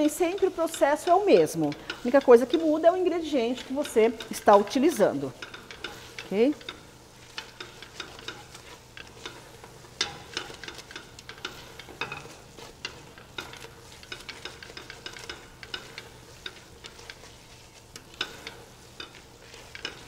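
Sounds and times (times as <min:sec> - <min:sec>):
spoon scraping a metal pot: 0:00.0 - 0:20.0.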